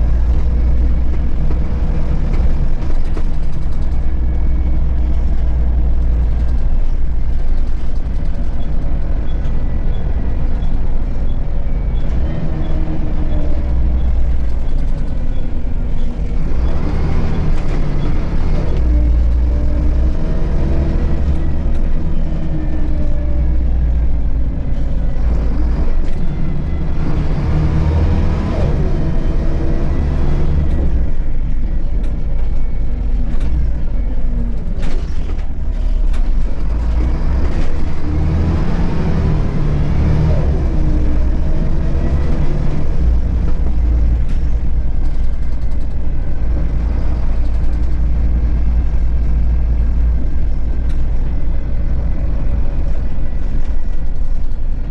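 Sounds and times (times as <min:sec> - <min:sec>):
bus diesel engine running: 0:00.0 - 0:54.9
road and body rumble: 0:00.0 - 0:54.9.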